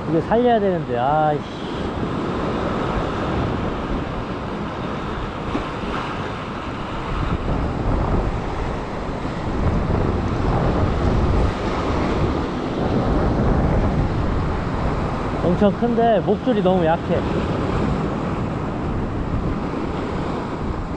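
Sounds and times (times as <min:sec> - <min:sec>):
ocean surf breaking on rocks: 0:00.0 - 0:20.9
wind on microphone: 0:00.0 - 0:20.9.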